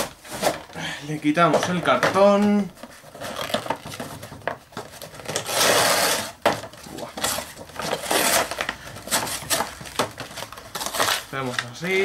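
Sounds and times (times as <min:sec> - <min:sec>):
cardboard scraping against plastic: 0:00.0 - 0:00.8, 0:01.4 - 0:12.0.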